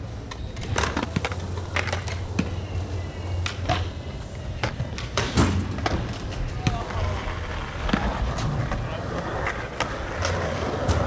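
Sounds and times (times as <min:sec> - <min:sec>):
skateboard clacks on concrete: 0:00.2 - 0:11.0.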